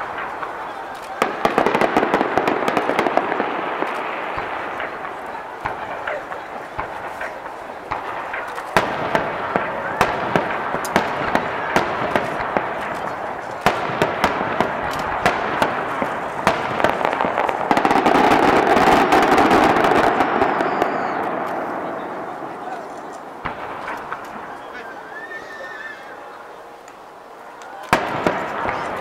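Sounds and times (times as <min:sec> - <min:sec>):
fireworks sharp bangs: 0:00.0 - 0:29.0
steady haze of noise: 0:00.0 - 0:29.0.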